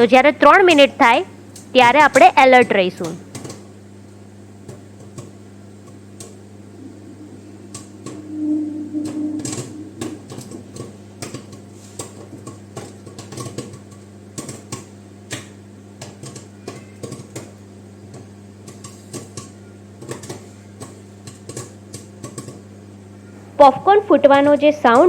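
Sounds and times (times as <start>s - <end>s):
popcorn popping: 0.0s - 6.8s, 9.4s - 23.3s, 24.2s - 25.0s
microwave oven humming: 0.0s - 25.0s.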